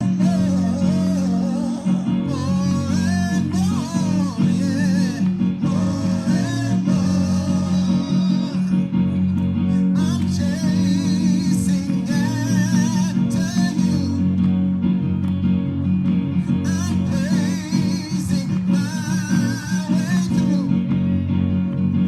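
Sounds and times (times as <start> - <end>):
guitar-led music: 0.0 - 22.0
steady bass line: 0.0 - 22.0.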